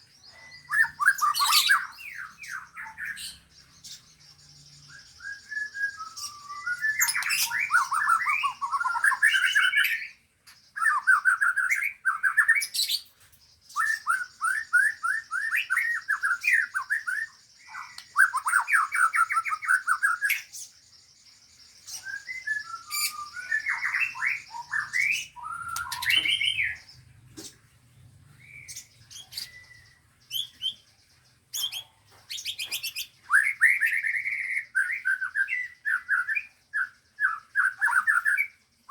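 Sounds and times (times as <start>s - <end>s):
caged songbirds singing: 0.0s - 38.9s.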